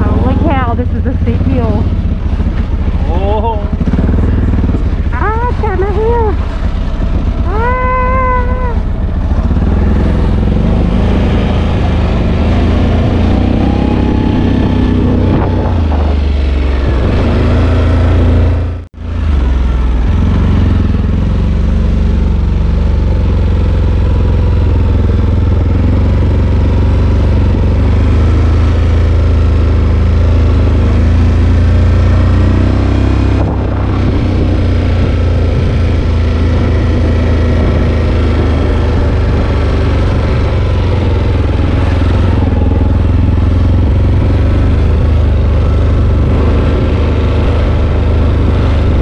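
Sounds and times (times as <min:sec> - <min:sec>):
quad bike engine revving: 0:00.0 - 0:49.0.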